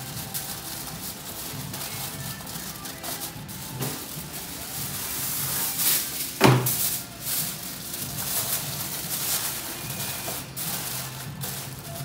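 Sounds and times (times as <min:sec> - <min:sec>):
aluminium foil ripping: 0:00.0 - 0:12.0
foil crinkling: 0:00.0 - 0:12.0.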